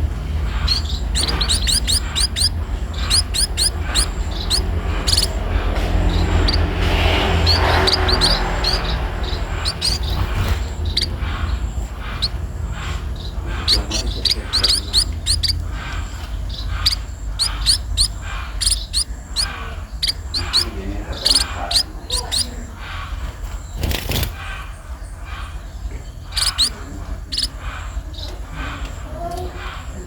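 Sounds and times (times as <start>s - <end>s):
sparrow chirping: 0.0s - 30.0s.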